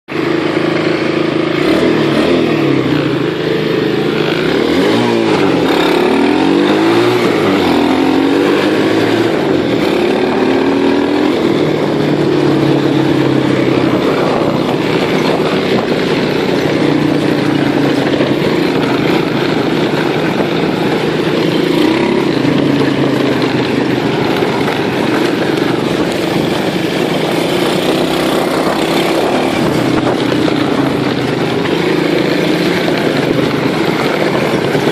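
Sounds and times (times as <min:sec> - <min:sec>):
small motorbike engine revving: 0:00.1 - 0:34.9.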